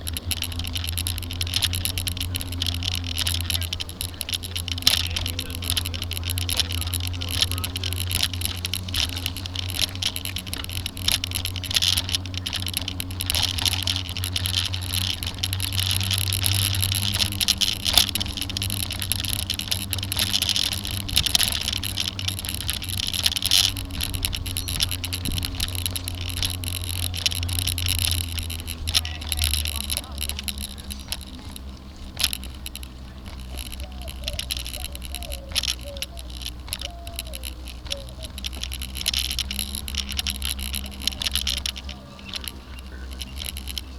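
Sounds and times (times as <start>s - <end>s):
camera rattling on bicycle: 0.0s - 43.9s
wind and tyres rumbling: 0.0s - 43.9s.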